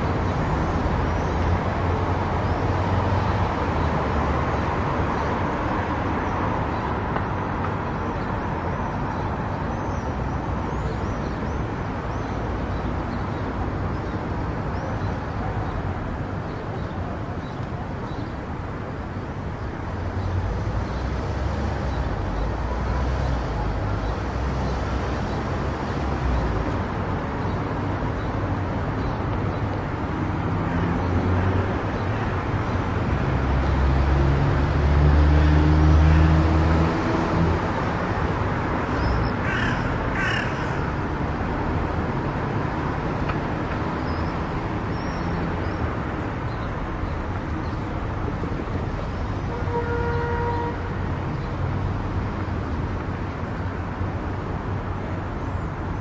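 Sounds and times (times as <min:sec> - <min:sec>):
tyre and road noise: 0:00.0 - 0:56.0.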